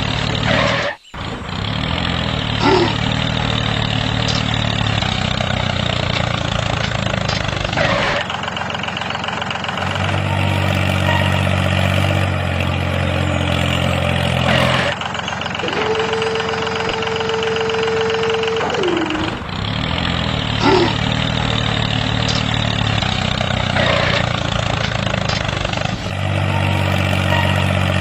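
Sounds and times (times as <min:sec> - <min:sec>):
engine running with low hum: 0:00.0 - 0:28.0.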